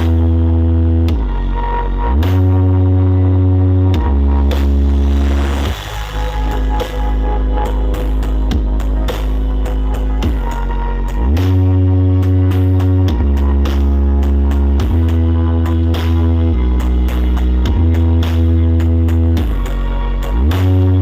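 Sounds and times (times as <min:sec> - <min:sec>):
heavy bass notes: 0:00.0 - 0:21.0.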